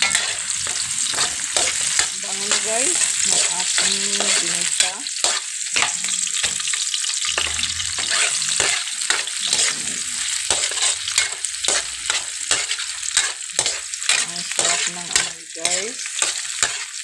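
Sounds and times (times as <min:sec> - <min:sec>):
oil sizzling in a pan: 0:00.0 - 0:17.0
utensil scraping and stirring: 0:00.0 - 0:17.0.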